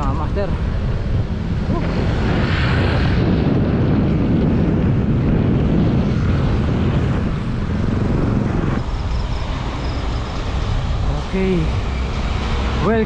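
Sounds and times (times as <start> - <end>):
road noise: 0.0 - 13.0
wind rushing over microphone: 0.0 - 13.0.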